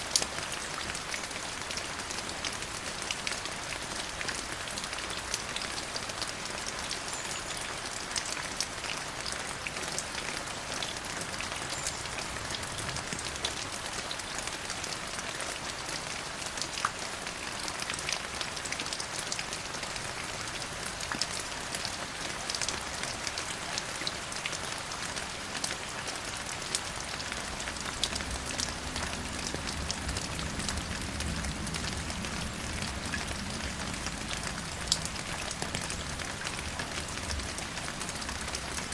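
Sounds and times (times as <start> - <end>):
rain on hard surface: 0.0 - 38.9.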